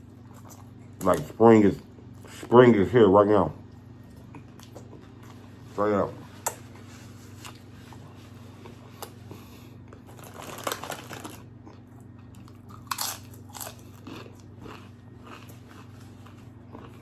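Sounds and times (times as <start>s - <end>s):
person chewing crunchy tacos: 0.0s - 1.4s, 3.6s - 5.7s, 6.4s - 17.0s
steady low hum: 0.0s - 17.0s.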